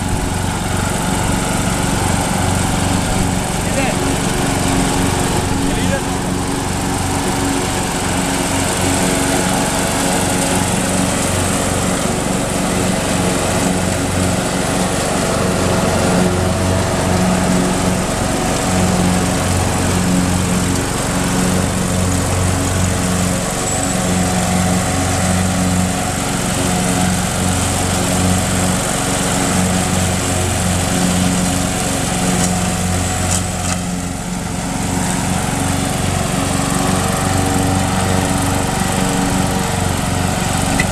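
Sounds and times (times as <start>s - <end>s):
riding mower engine running: 0.0s - 40.9s.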